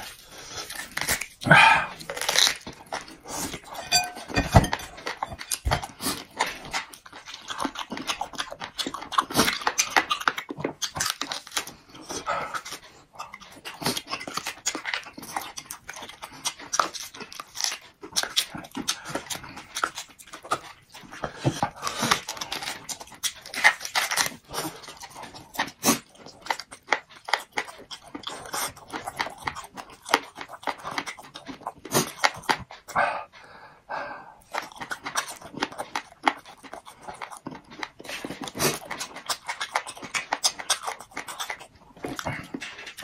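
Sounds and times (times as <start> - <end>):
man chewing and smacking lips: 0.0 - 43.0.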